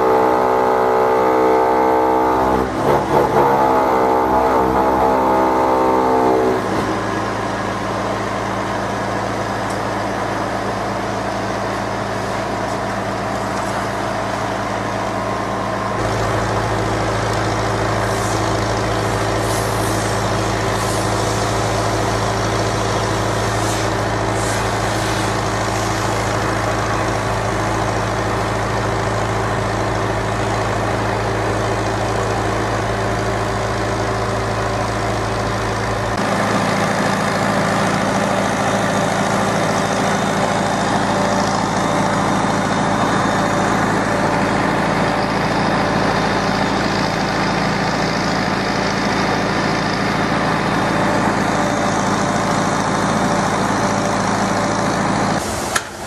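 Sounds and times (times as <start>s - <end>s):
heavy engine running: 0.0s - 56.0s.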